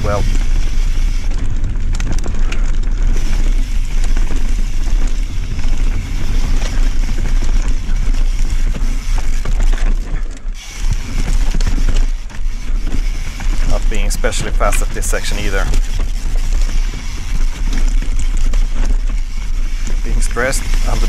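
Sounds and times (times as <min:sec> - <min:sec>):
bike rattling: 0:00.0 - 0:21.0
tyres rolling over dirt: 0:00.0 - 0:21.0
wind rushing over microphone: 0:00.0 - 0:21.0.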